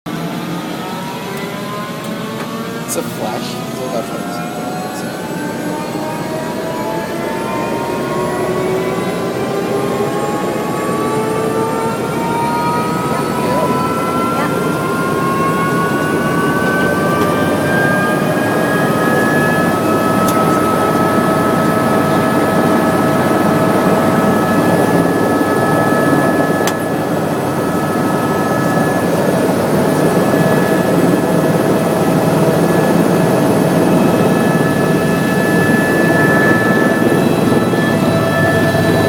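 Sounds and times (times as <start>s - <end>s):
helicopter turbine and rotor: 0.1s - 39.0s.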